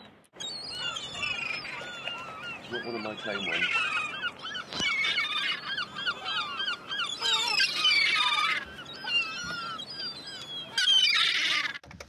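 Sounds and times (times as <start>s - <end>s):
flock of birds calling: 0.4s - 11.8s.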